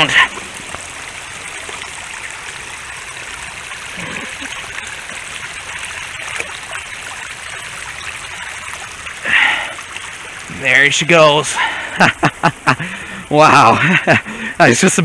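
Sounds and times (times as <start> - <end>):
shallow river water flowing: 0.0 - 15.0.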